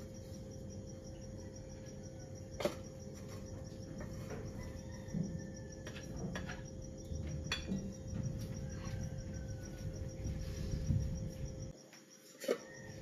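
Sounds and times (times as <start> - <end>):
steady low hum: 0.0 - 11.8
crickets chirping: 0.0 - 13.0.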